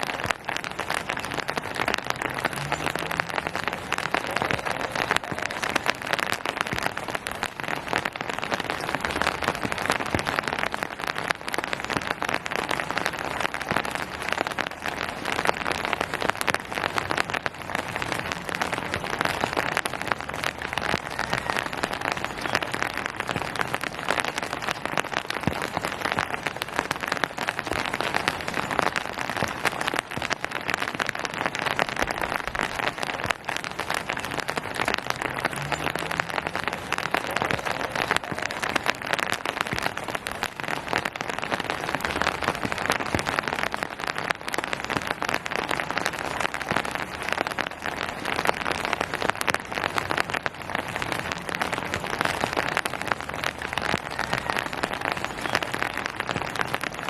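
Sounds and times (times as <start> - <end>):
rain pattering on hard surfaces: 0.0 - 57.0.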